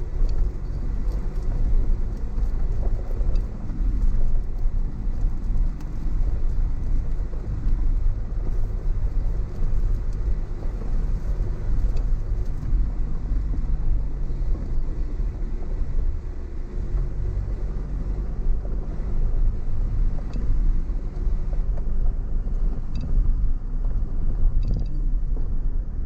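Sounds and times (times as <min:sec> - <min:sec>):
faint clicks and rattles: 0:00.0 - 0:15.0, 0:18.3 - 0:25.6
car engine and tyres rumbling: 0:00.0 - 0:26.0.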